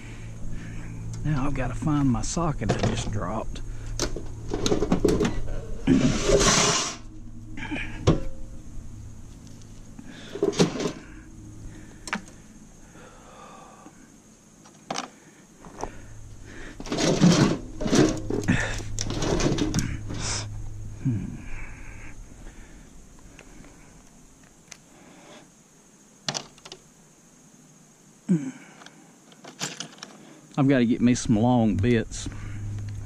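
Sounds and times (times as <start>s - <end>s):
steady low hum: 0.0s - 26.2s, 30.2s - 33.0s.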